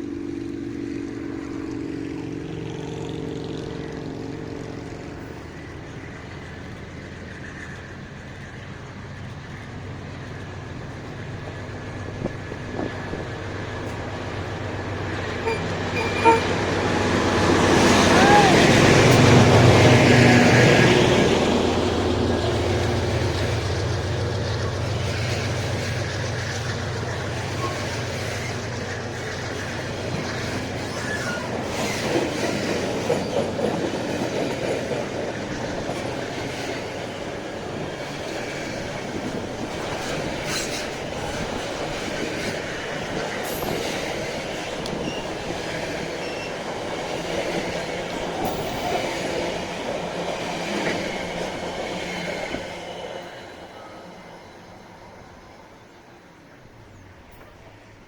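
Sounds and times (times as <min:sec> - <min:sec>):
locomotive engine hum: 0:00.0 - 0:58.0
wagons rumbling over rail joints: 0:00.1 - 0:53.2
train wheel squeals: 0:05.2 - 0:21.4, 0:22.4 - 0:54.6.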